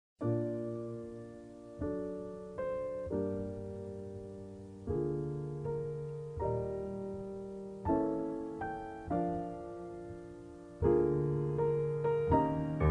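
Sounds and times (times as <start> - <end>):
slow piano chords: 0.2 - 12.9.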